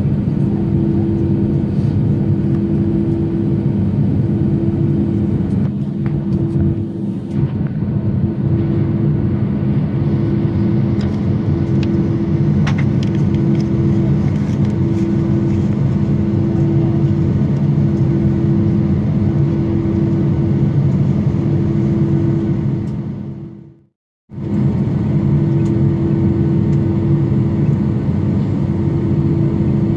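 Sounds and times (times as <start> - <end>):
jet engines droning: 0.0 - 29.9.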